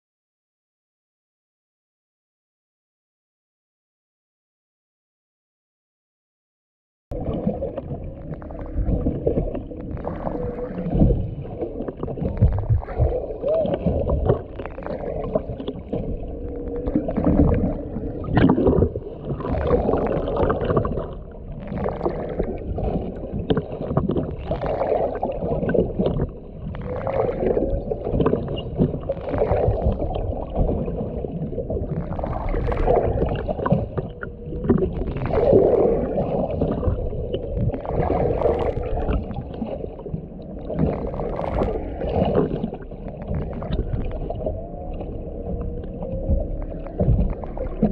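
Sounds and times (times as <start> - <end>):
water noise: 7.1 - 47.9
whale song underwater: 7.1 - 47.9.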